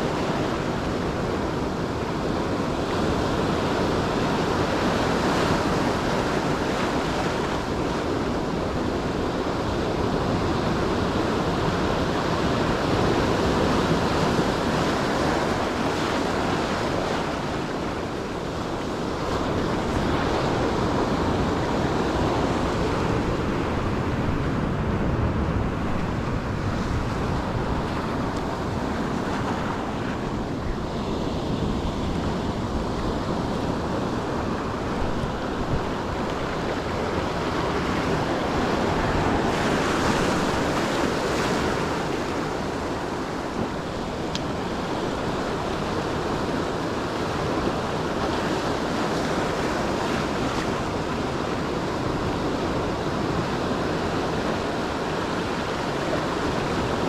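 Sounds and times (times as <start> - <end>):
ocean surf washing ashore: 0.0 - 57.0
wind buffeting microphone: 0.0 - 57.0.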